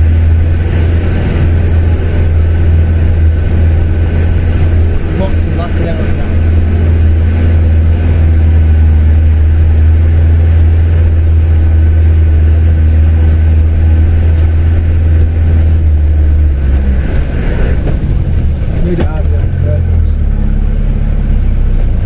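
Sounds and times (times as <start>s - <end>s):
car engine low drone: 0.0s - 22.0s.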